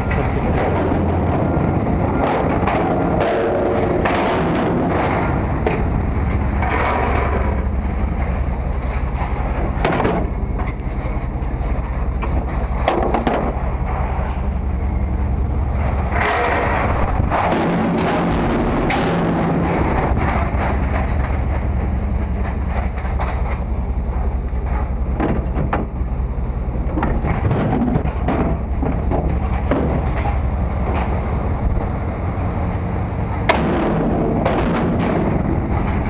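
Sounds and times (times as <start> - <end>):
knocks and clatter: 0.0 - 14.0, 15.8 - 23.7, 24.6 - 26.0, 26.9 - 31.9, 33.3 - 36.0
low engine rumble: 0.0 - 36.0.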